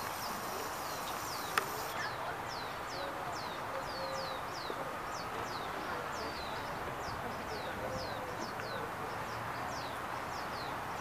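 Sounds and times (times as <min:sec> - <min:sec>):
small birds chirping: 0:00.0 - 0:11.0
steady background noise: 0:00.0 - 0:11.0.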